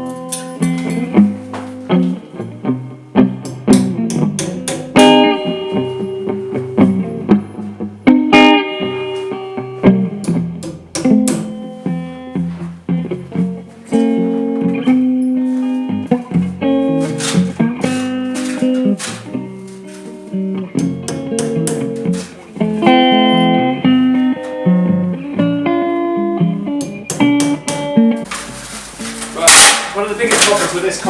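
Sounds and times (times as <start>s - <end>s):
guitar plucked notes and chords: 0.0s - 28.3s.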